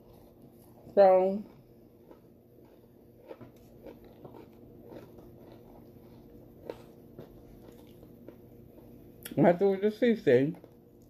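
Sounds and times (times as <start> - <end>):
person chewing: 0.0 - 9.4
faint low hum: 0.0 - 11.0.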